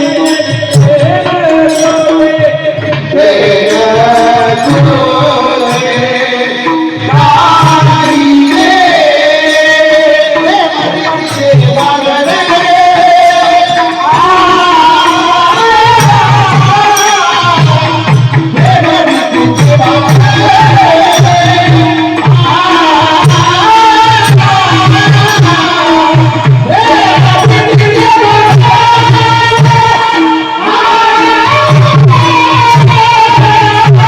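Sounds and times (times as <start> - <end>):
drum strokes: 0.0 - 34.0
instrumental accompaniment: 0.0 - 34.0
person singing devotional song: 0.0 - 34.0.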